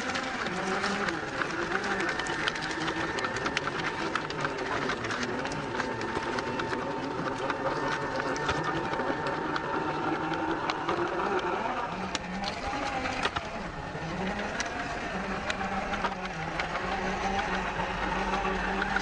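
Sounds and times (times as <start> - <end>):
electric motor whining: 0.0 - 19.0
tyres crunching over rocks: 0.0 - 19.0.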